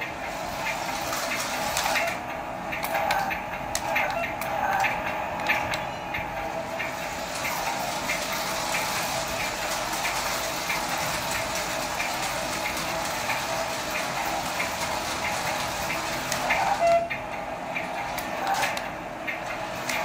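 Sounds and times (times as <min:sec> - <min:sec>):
wheels rolling on tiles: 0:00.0 - 0:17.2.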